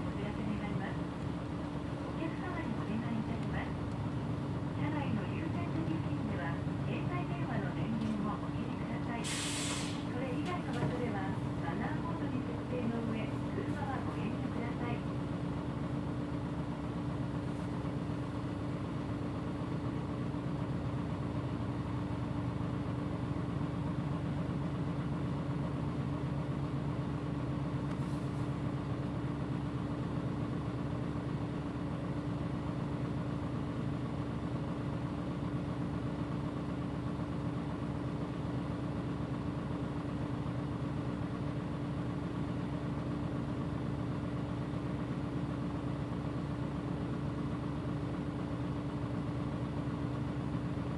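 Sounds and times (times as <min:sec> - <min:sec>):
bus engine idling: 0:00.0 - 0:50.9.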